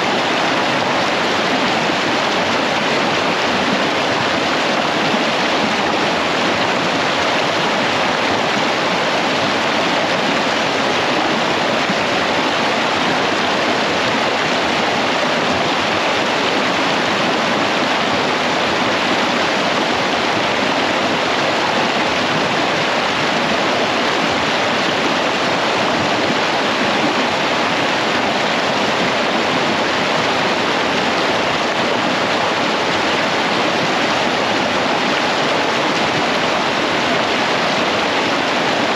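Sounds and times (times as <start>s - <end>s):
creek rushing over rocks: 0.0s - 38.9s.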